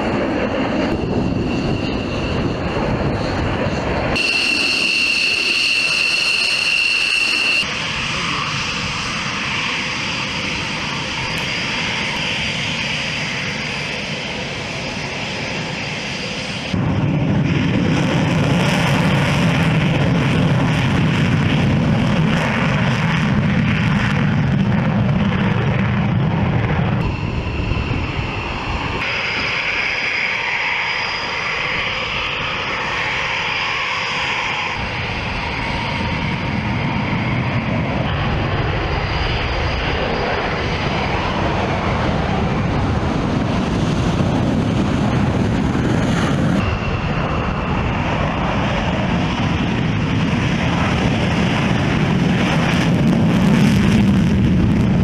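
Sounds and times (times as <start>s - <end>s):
fighter jet engines at takeoff: 0.0s - 55.0s.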